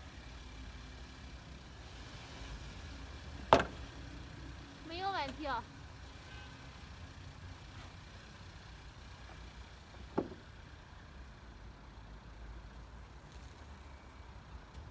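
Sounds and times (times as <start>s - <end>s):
car engine low rumble: 0.0s - 14.9s.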